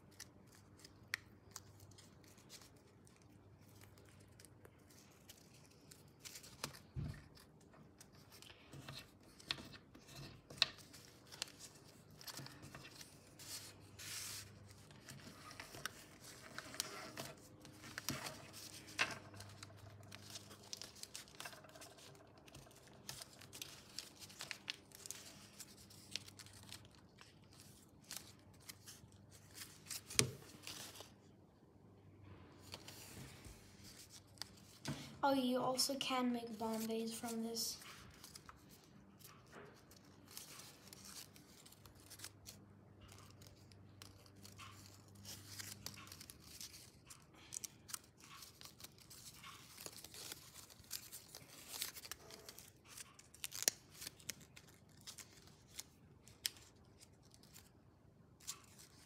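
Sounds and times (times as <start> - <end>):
paper crinkling and rustling: 0.0 - 31.3, 32.6 - 59.0.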